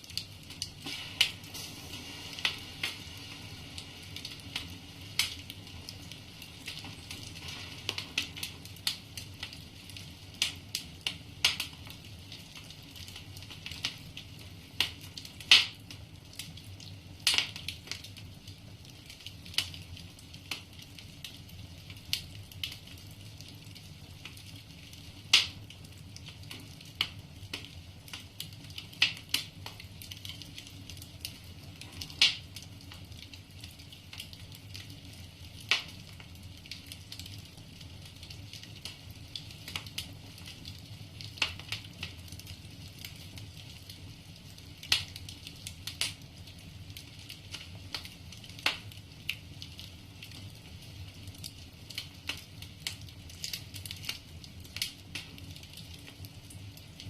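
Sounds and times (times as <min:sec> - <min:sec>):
burning logs crackling and popping: 0:00.0 - 0:57.0
fire hissing: 0:00.0 - 0:57.0.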